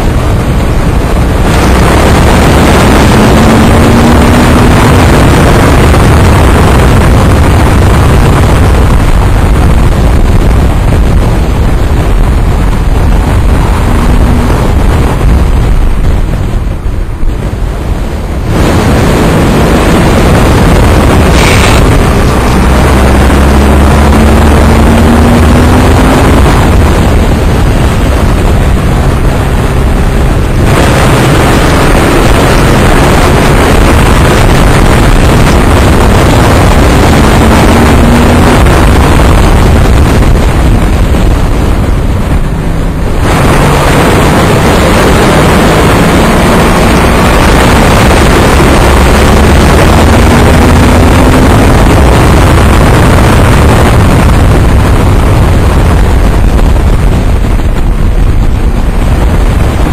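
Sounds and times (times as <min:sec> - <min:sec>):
motorcycle engine accelerating: 0:00.0 - 0:59.9
wind buffeting microphone: 0:00.0 - 0:59.9.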